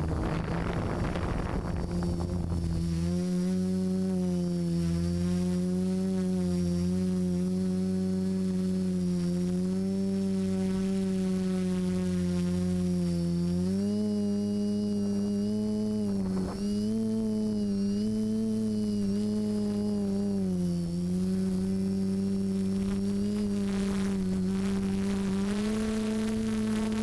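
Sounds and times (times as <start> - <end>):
drone motors buzzing whine: 0.0 - 27.0.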